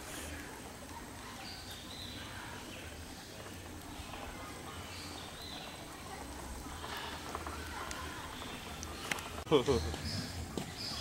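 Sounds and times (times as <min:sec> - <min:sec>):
low outdoor background hum: 0:00.0 - 0:11.0
faint bird chirps: 0:00.2 - 0:11.0.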